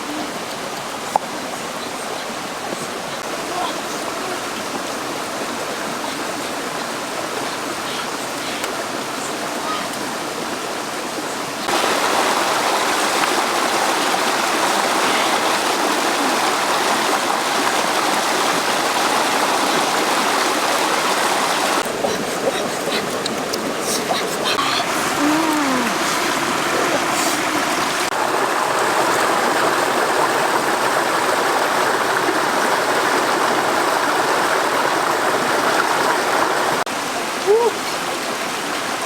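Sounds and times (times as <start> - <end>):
rushing water: 0.0 - 39.0.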